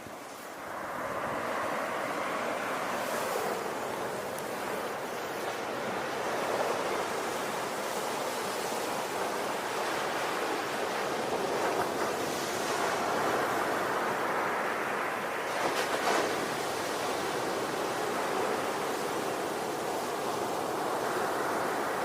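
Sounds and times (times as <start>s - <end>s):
ocean waves washing on shore: 0.0s - 22.0s.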